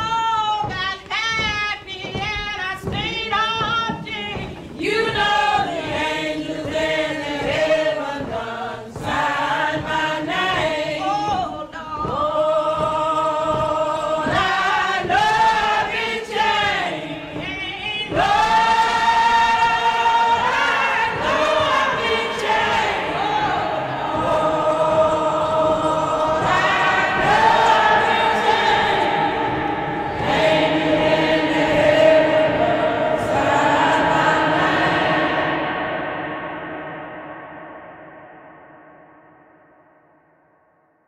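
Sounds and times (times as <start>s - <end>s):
gospel choir singing: 0.0s - 39.2s.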